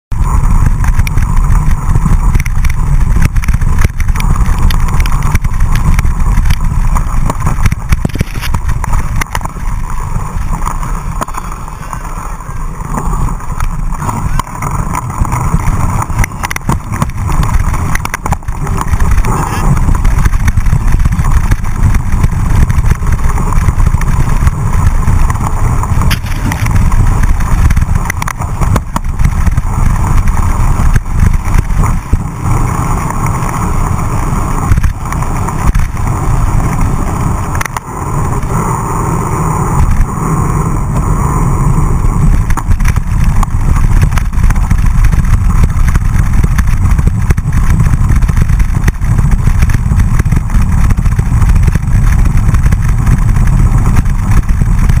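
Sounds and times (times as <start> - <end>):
bike tyres rolling: 0.0 - 55.0
wind rumble on microphone: 0.0 - 55.0.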